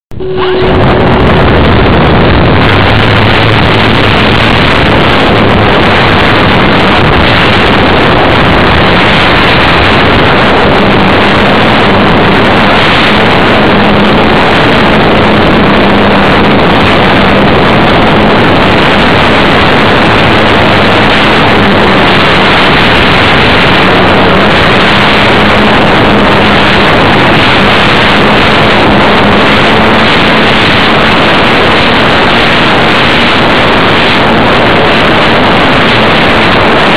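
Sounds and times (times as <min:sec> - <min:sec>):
propeller and air rushing: 0:00.0 - 0:36.9.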